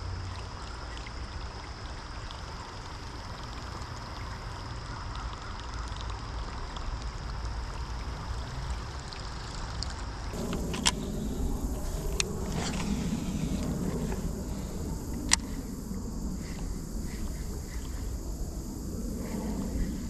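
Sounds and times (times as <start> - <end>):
creek water running: 0.1 - 20.0.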